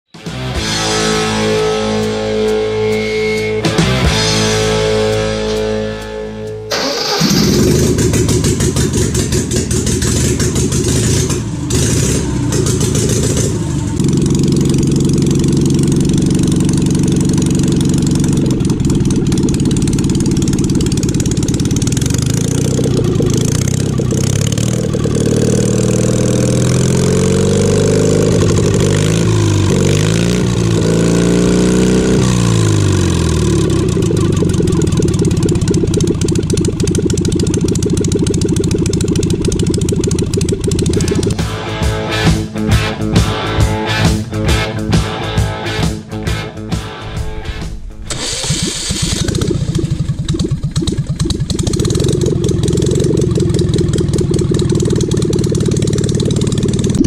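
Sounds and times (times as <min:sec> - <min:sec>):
motorcycle engine idling and revving: 0:00.1 - 0:57.0.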